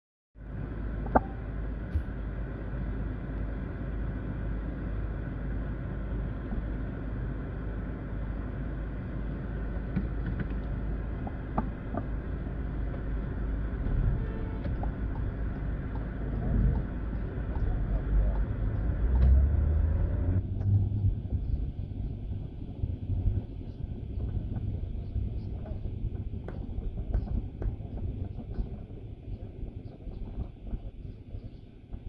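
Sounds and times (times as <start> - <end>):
car engine and road rumble: 0.4 - 32.0.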